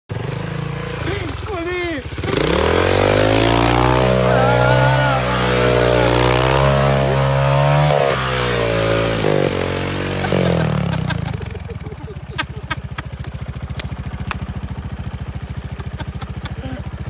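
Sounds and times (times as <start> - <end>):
motocross bike engine at high revs: 0.1 - 17.0.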